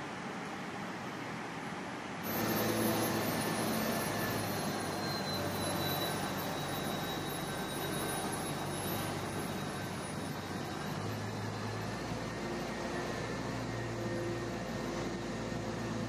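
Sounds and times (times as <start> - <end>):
airport machinery rushing hum: 0.0 - 16.0
faint high whine: 0.0 - 16.0.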